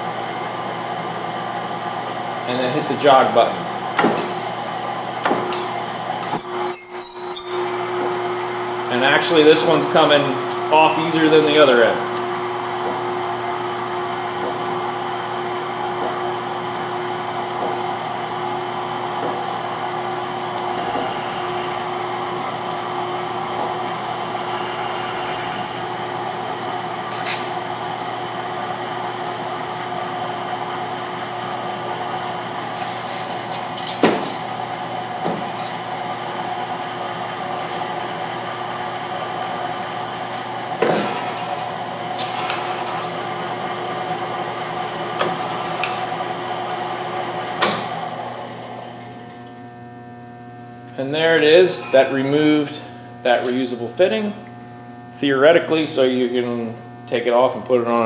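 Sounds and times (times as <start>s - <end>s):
machine motor humming: 0.0s - 49.9s.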